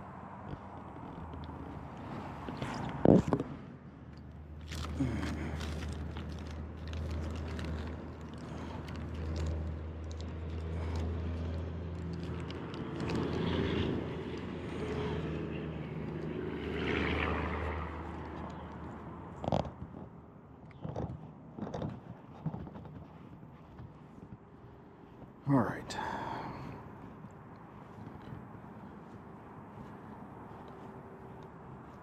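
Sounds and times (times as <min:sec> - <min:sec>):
low engine drone: 0:00.0 - 0:20.7, 0:23.2 - 0:32.0.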